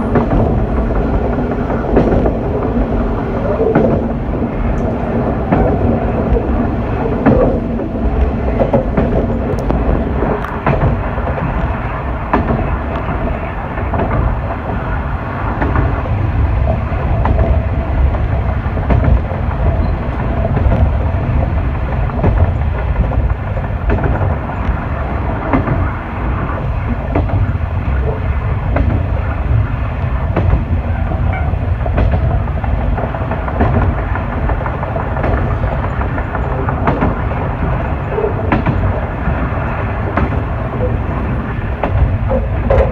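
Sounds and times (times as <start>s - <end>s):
railcar engine rumble: 0.0s - 42.9s
wheels clicking over rail joints: 0.0s - 42.9s.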